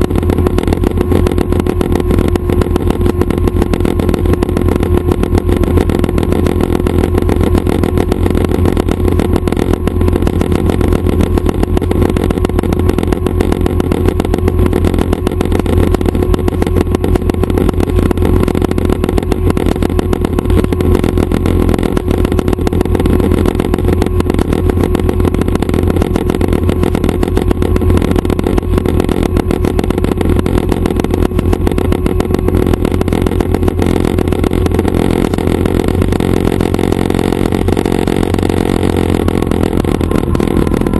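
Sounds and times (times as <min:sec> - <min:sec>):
helicopter engine and rotors drone: 0:00.0 - 0:40.9.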